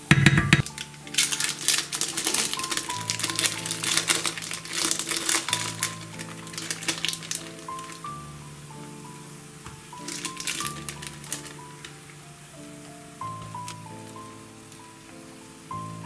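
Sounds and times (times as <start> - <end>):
background music: 0.0 - 16.0
plastic wrapper crinkling: 0.6 - 8.3, 9.0 - 15.0.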